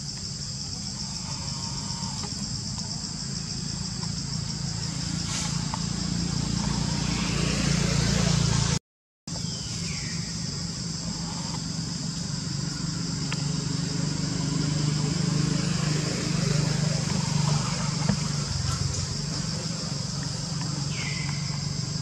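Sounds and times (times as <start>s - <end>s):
low engine-like hum: 1.0s - 8.8s, 9.4s - 22.0s.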